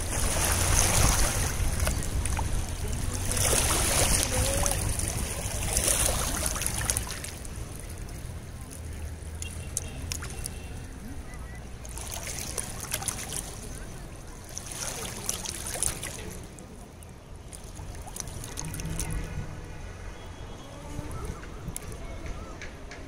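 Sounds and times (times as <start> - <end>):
river water lapping over stones: 0.0 - 20.0.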